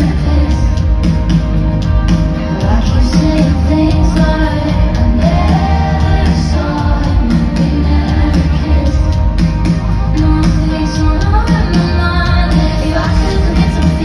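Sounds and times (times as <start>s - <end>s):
live pop band playing: 0.0s - 14.0s
person singing: 2.4s - 14.0s.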